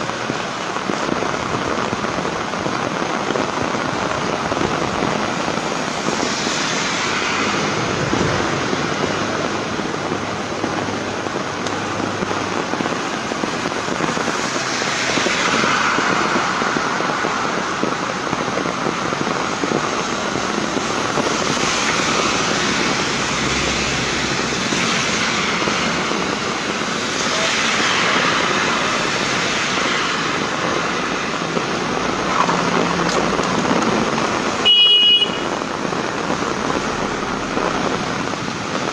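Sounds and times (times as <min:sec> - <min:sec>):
heavy rain falling: 0:00.0 - 0:38.9
tyre hiss on wet road: 0:00.0 - 0:38.9.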